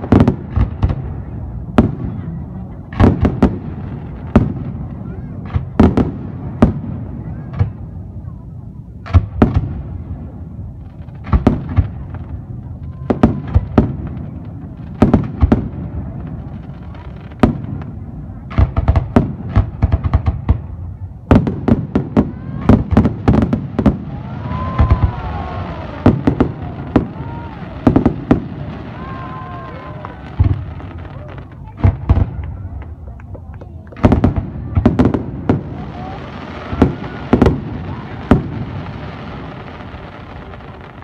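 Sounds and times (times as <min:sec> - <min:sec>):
rumbling crackling background: 0:00.0 - 0:41.0.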